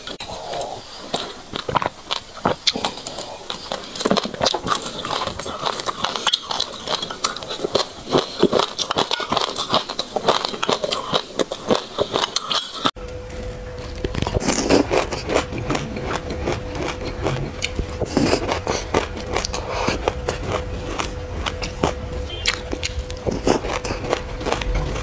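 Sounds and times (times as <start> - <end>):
crunchy chewing of seeds: 0.0 - 25.0.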